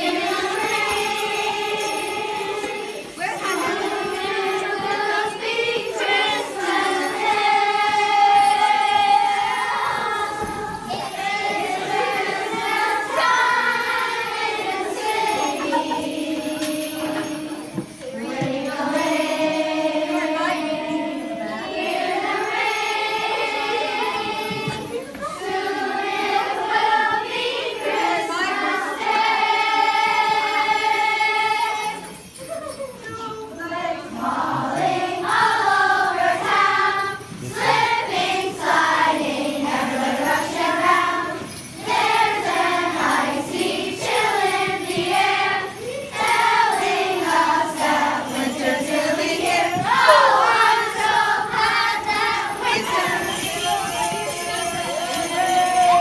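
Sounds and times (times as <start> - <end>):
children singing: 0.0 - 32.4, 33.1 - 56.0
jingle bells shaking: 0.0 - 56.0.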